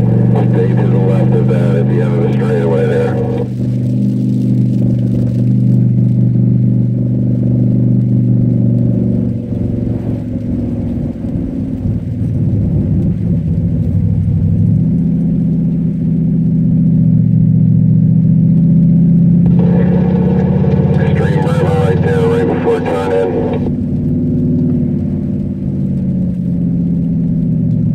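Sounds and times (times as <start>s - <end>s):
car engine running hard: 0.0s - 27.9s.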